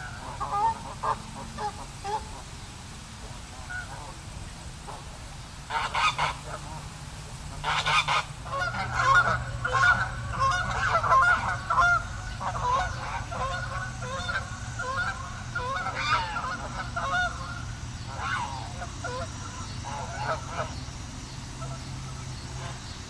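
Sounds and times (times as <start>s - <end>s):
geese honking: 0.0s - 23.0s
low steady hum: 0.0s - 23.0s.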